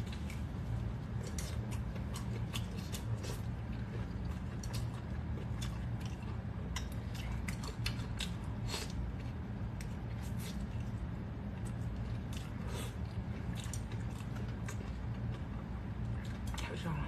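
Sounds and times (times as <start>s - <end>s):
chewing and biting: 0.0s - 16.6s.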